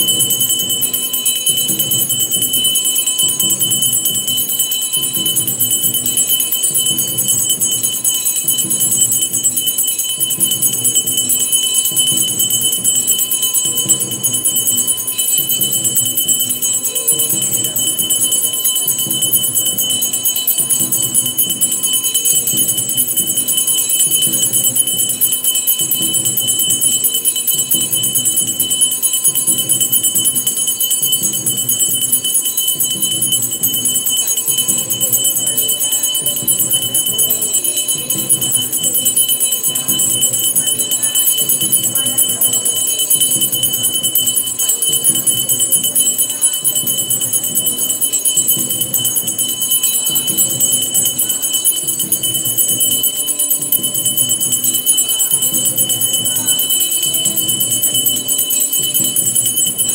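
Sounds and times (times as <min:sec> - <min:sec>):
steady drum beat: 0:00.0 - 0:59.9
temple bells ringing: 0:00.0 - 0:59.9.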